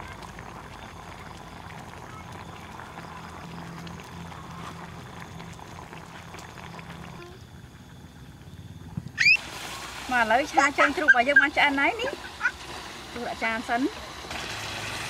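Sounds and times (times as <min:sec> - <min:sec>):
meat sizzling in hot oil: 0:00.0 - 0:08.1, 0:09.2 - 0:15.0.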